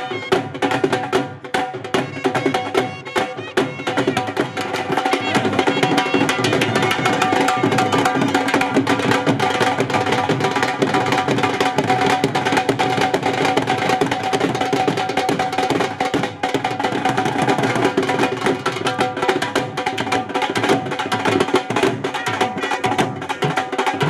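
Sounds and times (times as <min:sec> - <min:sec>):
dhol drums fast rhythm: 0:00.0 - 0:24.0.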